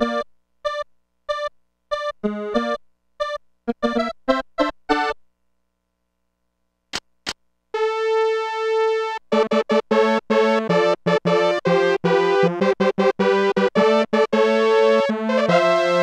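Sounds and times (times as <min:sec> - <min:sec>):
mini keyboard synth tones: 0:00.0 - 0:05.2, 0:07.8 - 0:16.0.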